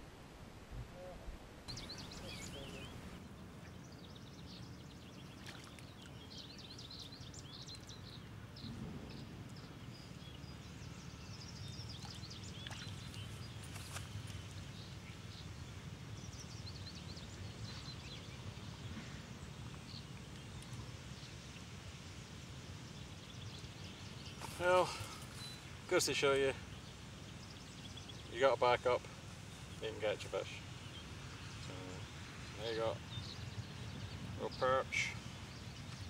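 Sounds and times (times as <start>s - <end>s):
small birds chirping: 1.7s - 36.0s.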